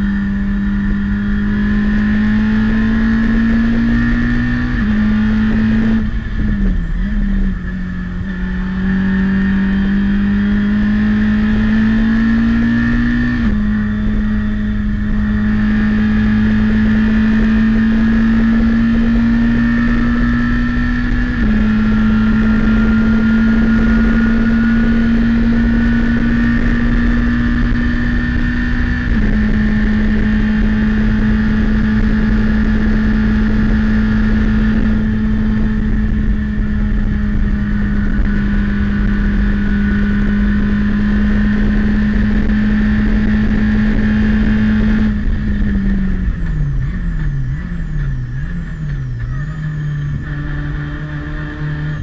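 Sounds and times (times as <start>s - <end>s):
race car engine at high revs: 0.0s - 52.0s
road and wind noise: 0.0s - 52.0s.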